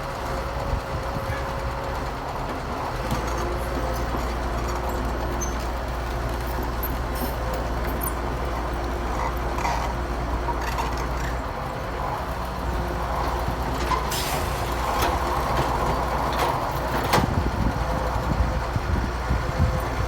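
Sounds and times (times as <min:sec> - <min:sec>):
diesel engine drone: 0:00.0 - 0:20.0.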